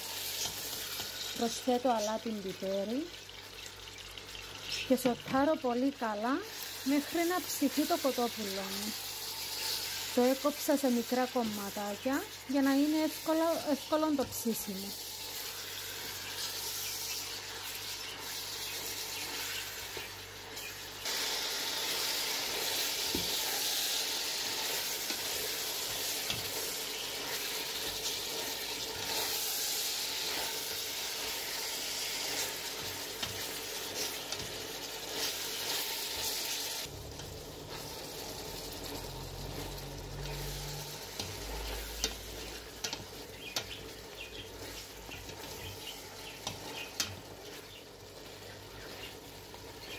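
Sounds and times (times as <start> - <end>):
chicken and onion sizzling: 0.0 - 49.9.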